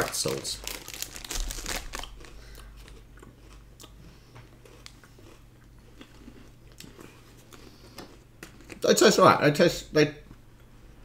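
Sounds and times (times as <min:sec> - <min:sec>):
crunching and chewing snacks: 0:00.0 - 0:08.8.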